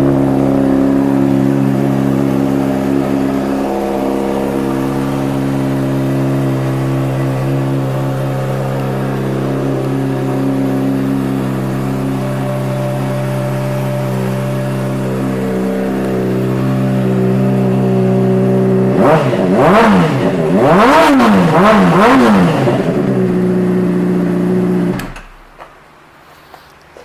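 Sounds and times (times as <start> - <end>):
motorcycle engine idling and revving: 0.0 - 25.5.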